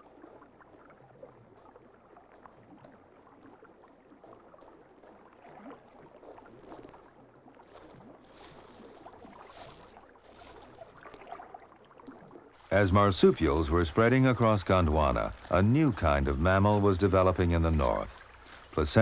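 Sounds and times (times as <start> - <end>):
water splashing and lapping: 0.0 - 19.0.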